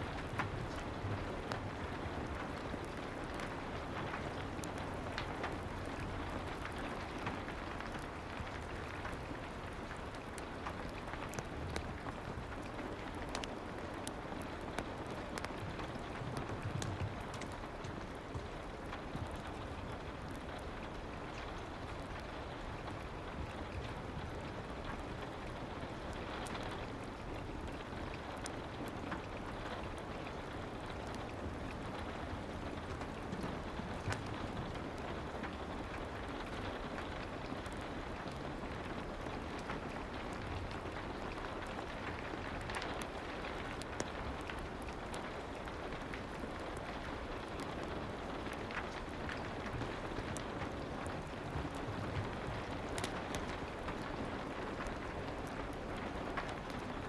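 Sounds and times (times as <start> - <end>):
fireplace crackles: 0.0 - 57.0
soft rain: 0.0 - 57.0.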